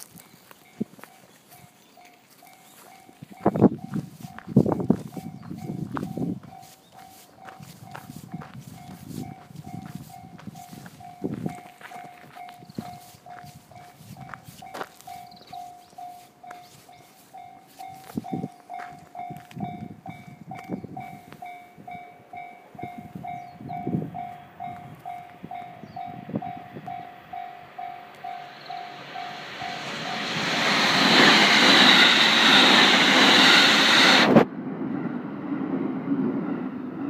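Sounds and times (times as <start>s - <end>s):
level-crossing warning bell: 0.0s - 34.2s
low train rumble: 0.0s - 37.0s
train passing: 0.0s - 37.0s.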